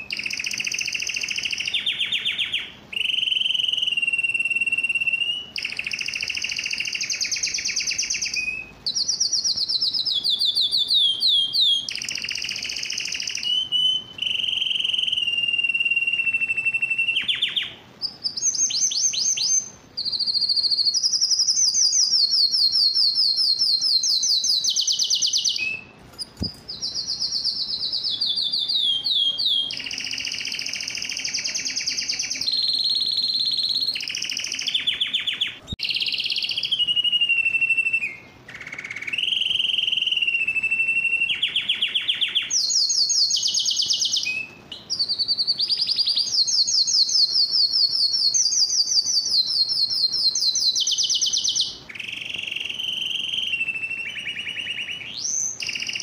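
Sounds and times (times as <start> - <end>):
canary singing rolling trills: 0.0 - 56.0.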